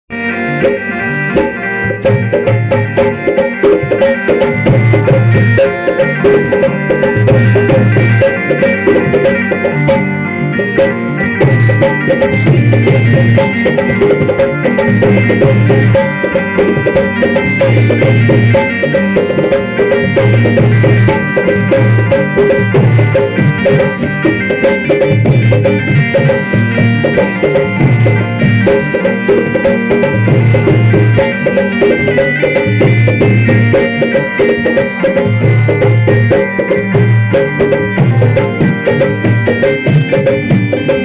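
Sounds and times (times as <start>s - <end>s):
folk melody over drone: 0.1s - 41.0s.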